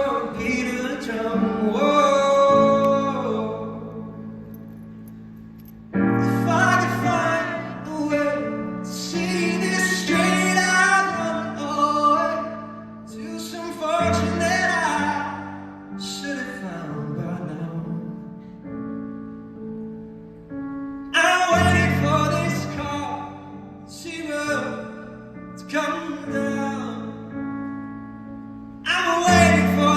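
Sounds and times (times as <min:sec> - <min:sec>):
man singing a slow song: 0:00.0 - 0:04.6, 0:06.1 - 0:18.6, 0:21.1 - 0:27.6, 0:28.8 - 0:29.9.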